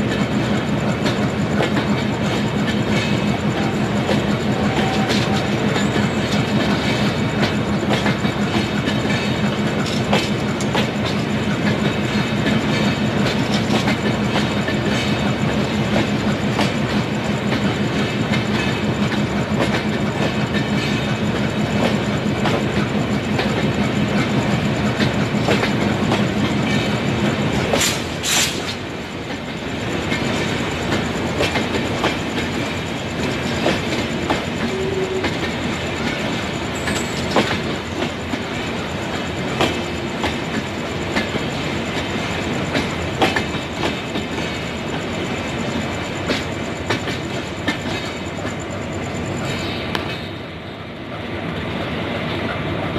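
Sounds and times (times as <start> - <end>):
train wheels clicking over rail joints: 0.0 - 52.9.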